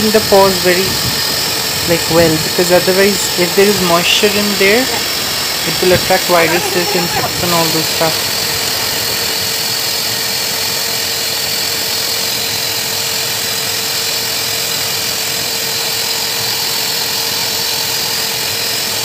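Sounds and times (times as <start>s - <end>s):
pet blow dryer running: 0.0s - 19.0s.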